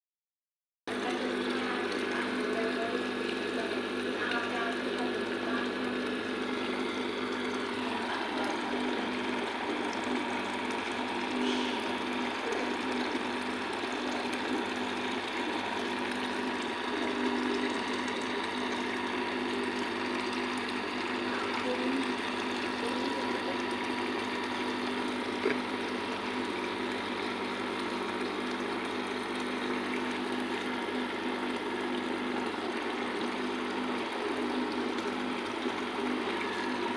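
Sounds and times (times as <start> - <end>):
machinery humming: 0.9 - 36.9.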